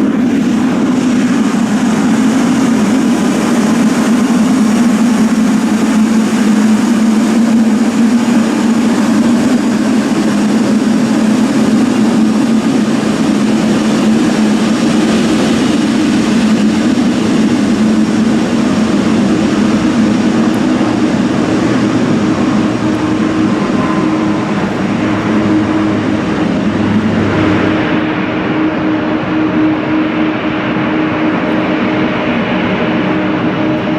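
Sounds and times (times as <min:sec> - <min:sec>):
jet engines droning: 0:00.0 - 0:33.9.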